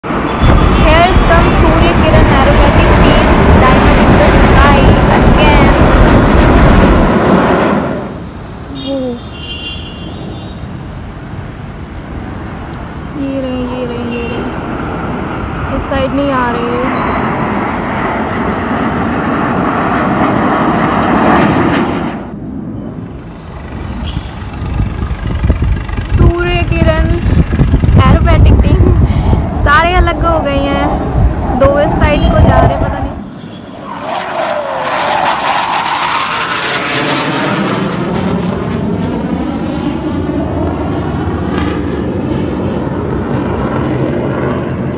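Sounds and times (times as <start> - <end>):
jet engines passing overhead: 0.0 - 44.9.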